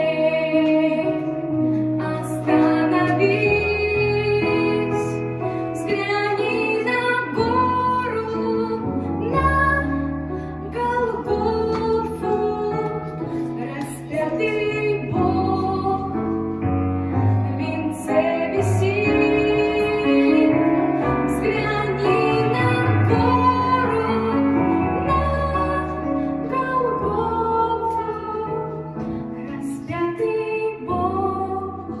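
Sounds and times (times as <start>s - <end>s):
woman singing: 0.0s - 16.6s, 17.2s - 32.0s.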